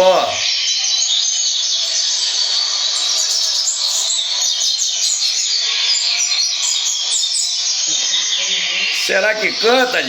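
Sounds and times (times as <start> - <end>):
bird chirping song: 0.0 - 10.0.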